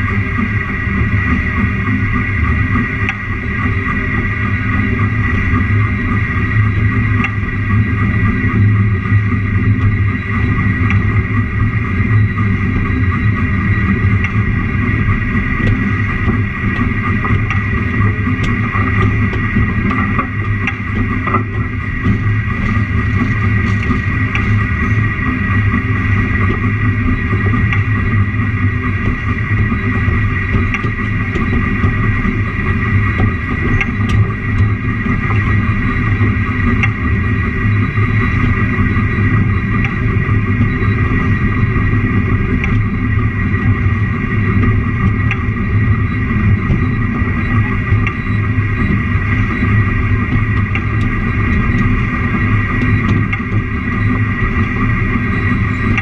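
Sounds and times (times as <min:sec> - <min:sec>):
train loud steady drone: 0:00.0 - 0:56.0.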